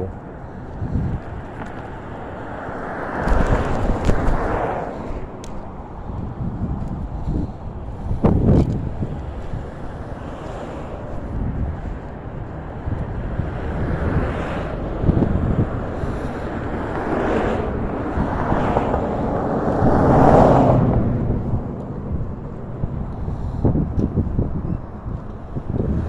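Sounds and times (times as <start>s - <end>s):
road traffic: 0.0s - 26.0s
vehicle passing: 0.0s - 26.0s
wind rushing on microphone: 0.0s - 26.0s.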